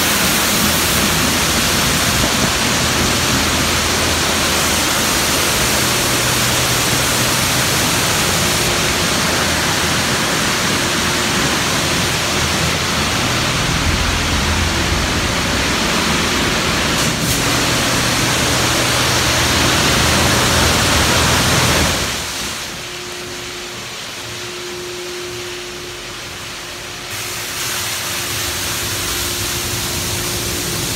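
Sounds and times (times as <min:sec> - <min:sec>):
car wash water spraying: 0:00.0 - 0:30.9
low machine hum: 0:00.0 - 0:30.9.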